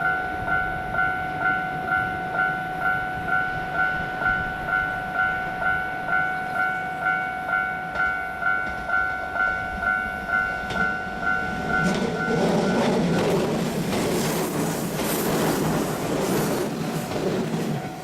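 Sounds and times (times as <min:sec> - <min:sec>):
level-crossing warning bell ringing: 0:00.0 - 0:16.2.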